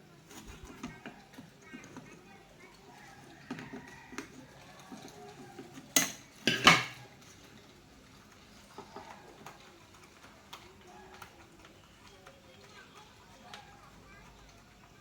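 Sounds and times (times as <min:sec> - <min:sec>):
hard objects clattering: 0:00.1 - 0:15.0.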